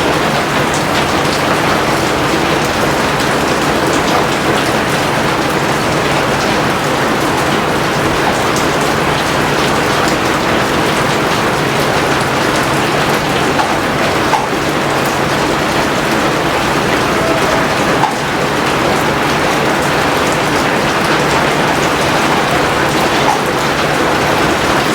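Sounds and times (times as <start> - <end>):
heavy rain hissing: 0.0 - 24.9
raindrops ticking: 0.0 - 24.9.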